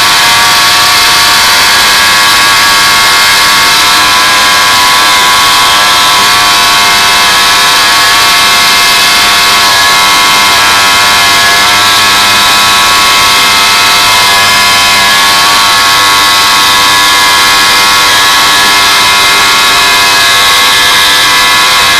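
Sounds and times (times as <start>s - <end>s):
paving machinery whining: 0.0s - 21.9s.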